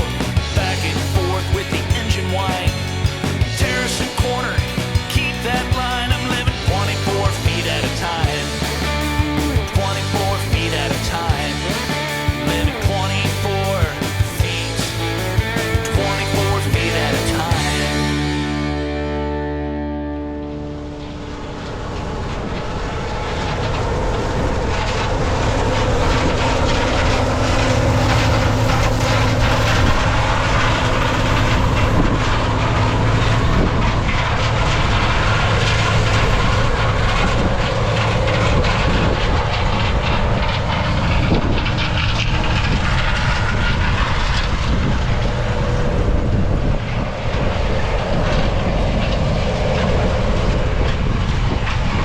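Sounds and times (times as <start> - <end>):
combine harvester engine droning: 0.0 - 52.0.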